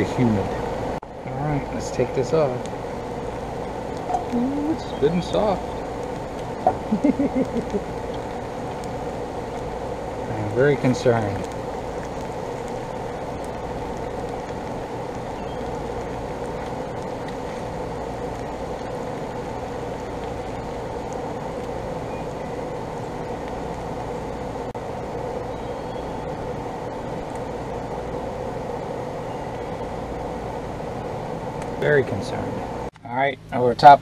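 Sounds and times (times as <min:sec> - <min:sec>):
machine drone: 0:00.0 - 0:33.6
low hum: 0:00.0 - 0:33.8.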